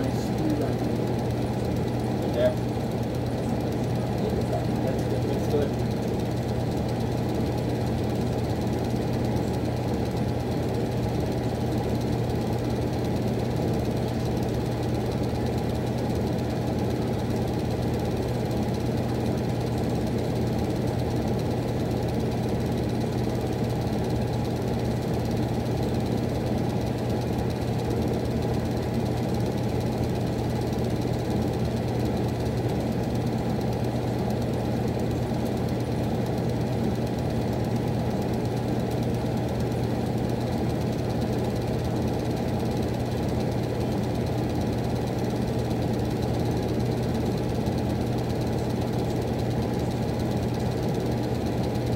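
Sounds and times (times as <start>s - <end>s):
furnace humming: 0.0s - 51.9s.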